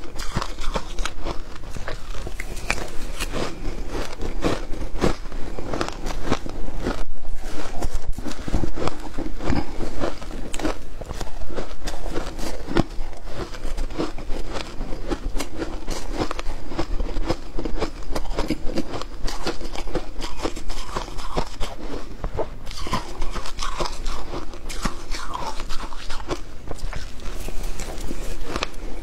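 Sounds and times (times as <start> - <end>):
ice crunching being chewed: 0.0 - 29.0.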